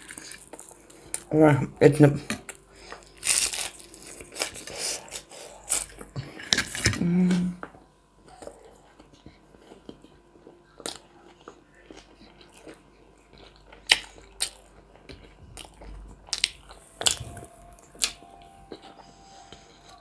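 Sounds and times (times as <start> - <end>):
person chewing food: 0.0 - 1.3, 2.3 - 20.0.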